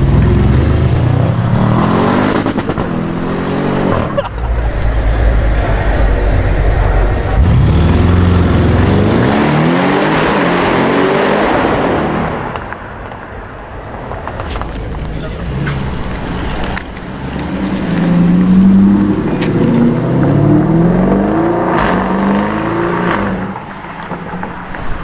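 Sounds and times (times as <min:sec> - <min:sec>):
car engine accelerating hard: 0:00.0 - 0:12.5, 0:14.4 - 0:23.6.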